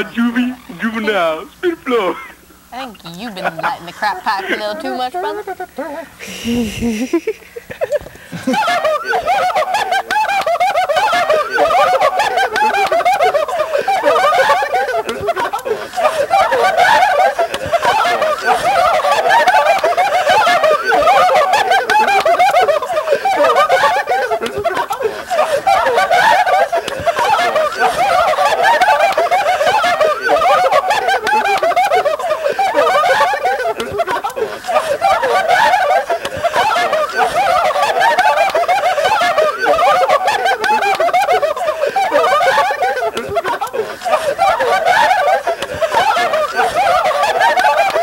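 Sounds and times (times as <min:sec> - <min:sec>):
people laughing and talking: 0:00.0 - 0:48.0.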